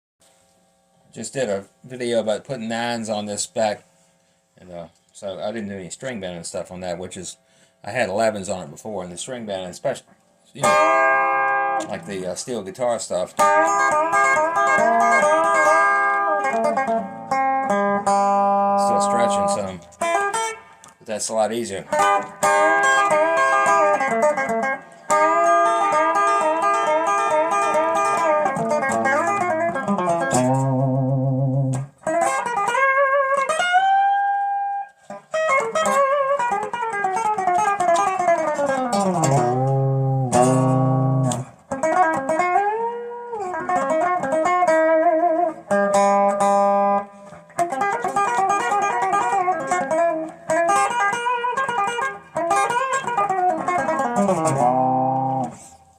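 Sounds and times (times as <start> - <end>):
electric guitar string bends: 10.5 - 55.9.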